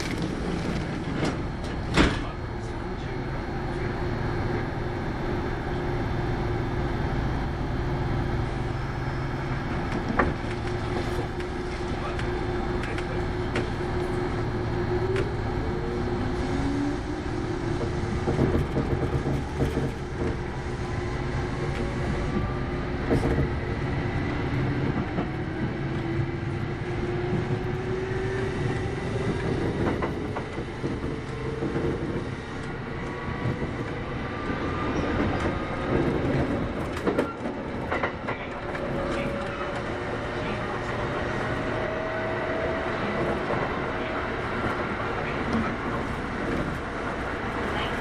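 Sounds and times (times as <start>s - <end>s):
train rumble: 0.0s - 48.0s.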